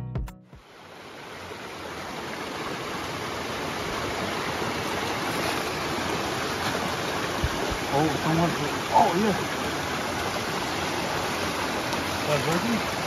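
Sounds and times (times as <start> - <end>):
creek running over rocks: 0.6 - 13.0.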